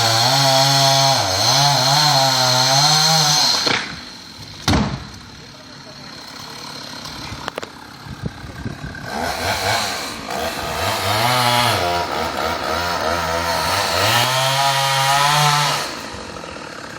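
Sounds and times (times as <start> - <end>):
chainsaw engine revving: 0.0 - 4.6, 5.9 - 16.9.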